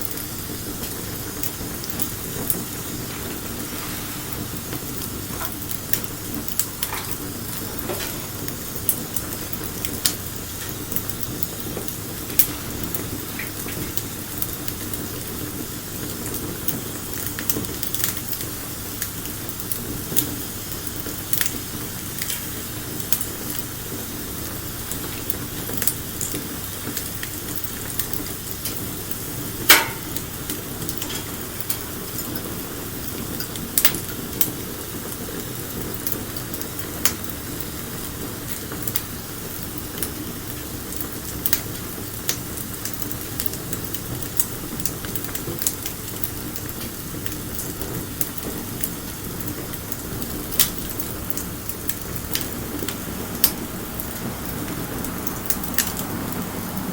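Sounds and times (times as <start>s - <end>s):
bonfire crackling: 0.0s - 56.9s.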